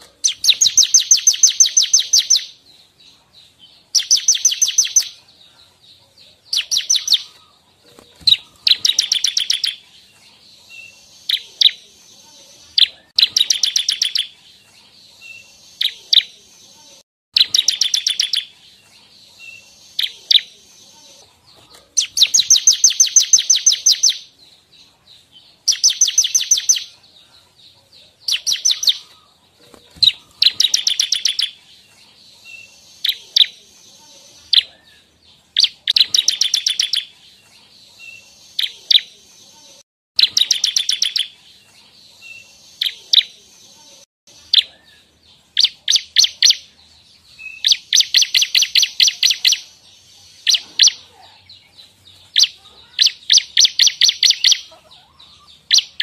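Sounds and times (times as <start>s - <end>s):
bird chipping song: 0.0s - 56.0s.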